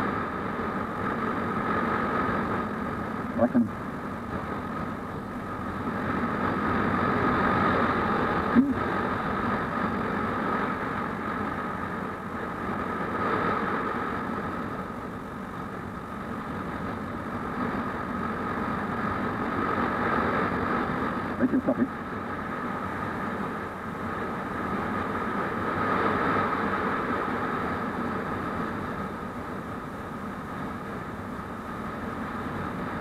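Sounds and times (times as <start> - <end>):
road and wind noise: 0.0 - 33.0.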